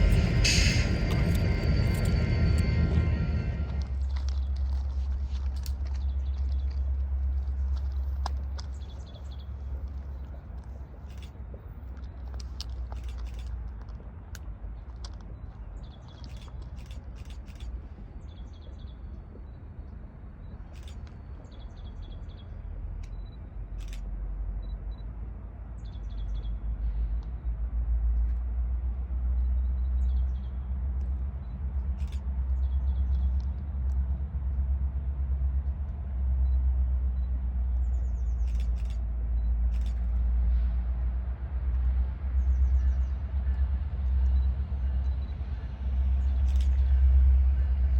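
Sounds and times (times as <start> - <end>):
low vehicle rumble: 0.0 - 47.9.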